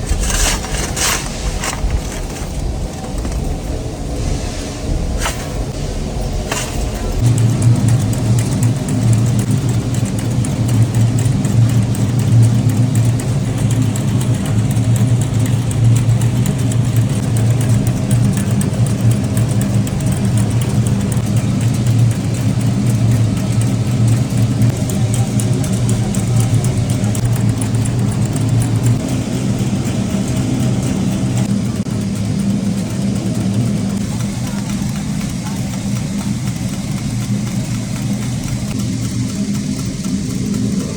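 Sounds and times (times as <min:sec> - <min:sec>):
factory machinery humming: 0:00.0 - 0:40.9.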